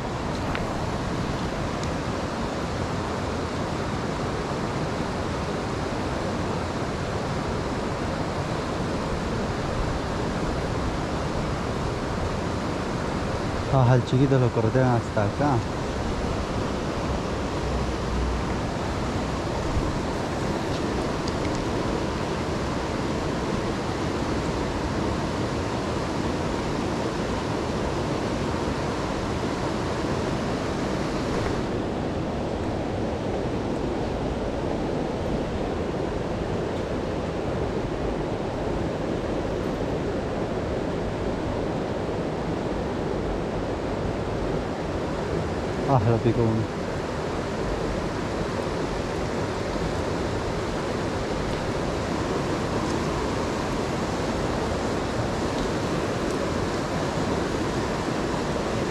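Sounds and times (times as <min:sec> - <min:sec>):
stream water rushing over rocks: 0:00.0 - 0:58.9.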